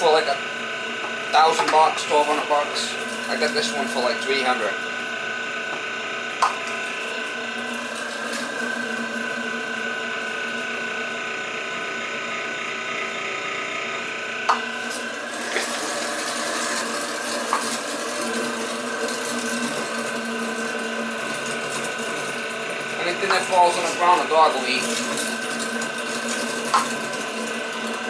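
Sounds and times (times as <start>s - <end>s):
electric meat grinder humming: 0.0s - 28.0s.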